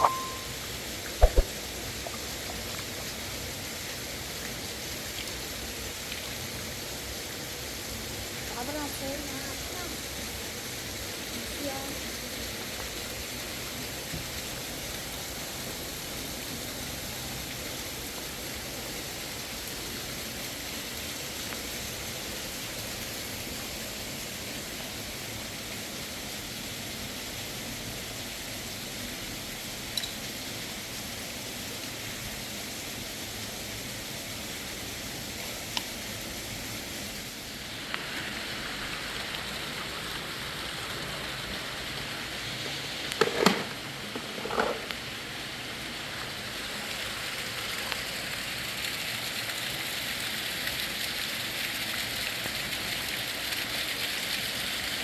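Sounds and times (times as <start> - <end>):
rushing flowing water: 0.0 - 55.0.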